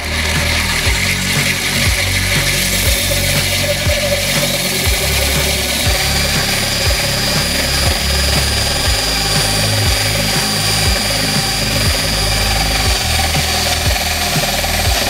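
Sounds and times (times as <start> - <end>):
electric drill whining: 0.0 - 15.0.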